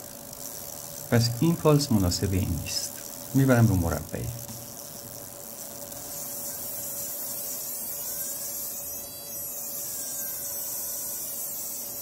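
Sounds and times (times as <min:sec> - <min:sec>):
fuel injector electrical buzz: 0:00.0 - 0:12.0.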